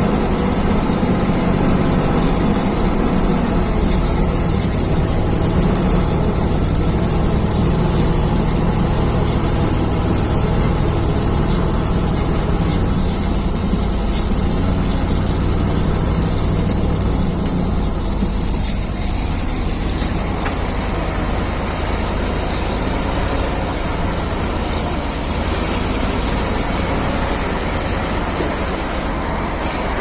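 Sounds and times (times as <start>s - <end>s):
constant hiss: 0.0s - 30.0s
diesel engine idling: 0.0s - 30.0s.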